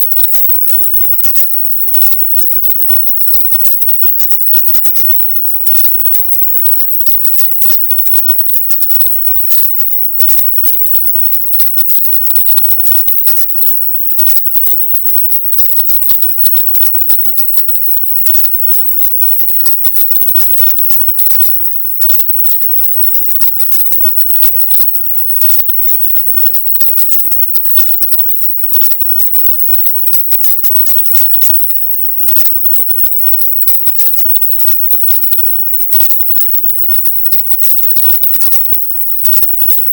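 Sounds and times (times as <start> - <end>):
dense crackling static: 0.0 - 39.9.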